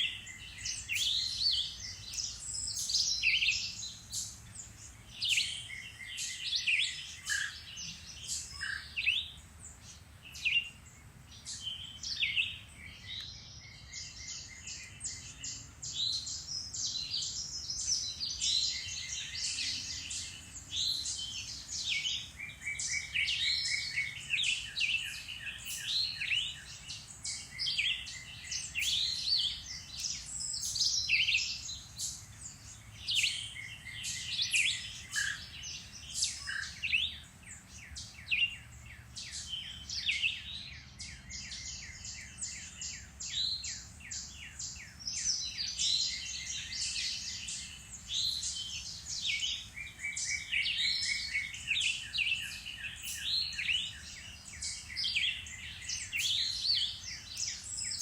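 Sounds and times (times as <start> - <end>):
songbirds singing and calling: 0.0 - 58.0.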